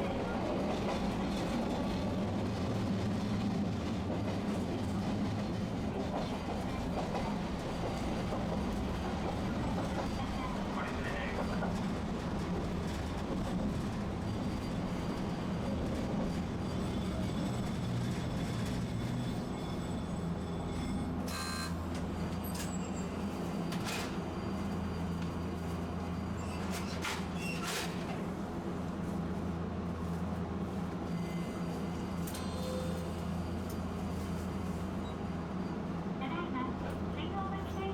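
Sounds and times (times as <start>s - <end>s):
streetcar motor and wheels hum: 0.0s - 37.9s.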